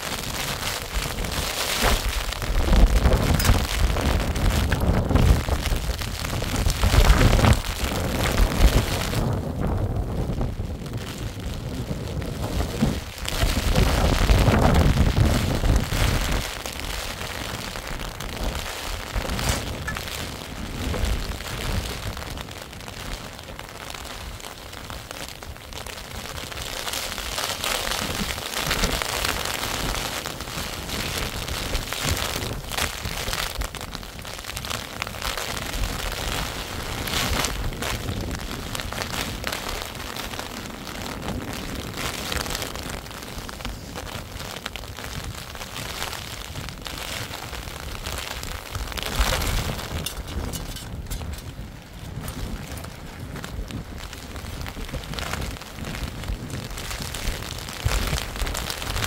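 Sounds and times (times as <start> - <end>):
storm wind buffeting microphone: 0.0 - 59.0.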